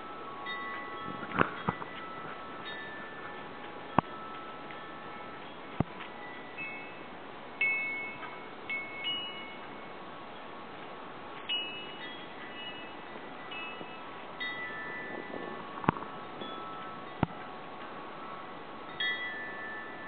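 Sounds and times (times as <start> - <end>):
steady background hiss: 0.0 - 20.0
wind chimes ringing: 0.0 - 20.0.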